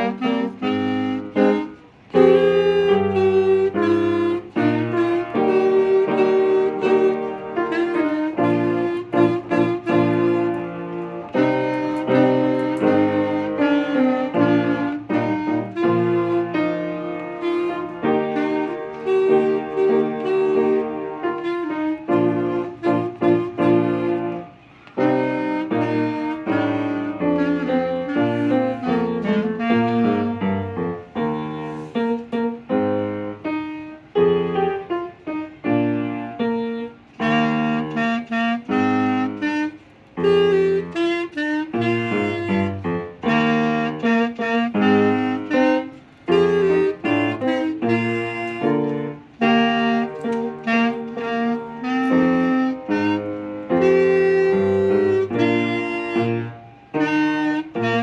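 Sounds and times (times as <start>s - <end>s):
musical accompaniment: 0.0s - 58.0s
wind instrument melody: 0.0s - 58.0s.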